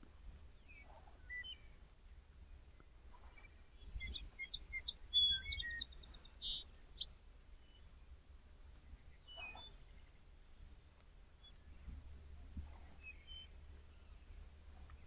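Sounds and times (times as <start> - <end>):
faint forest rumble: 0.0 - 15.0
songbird singing: 0.0 - 15.0.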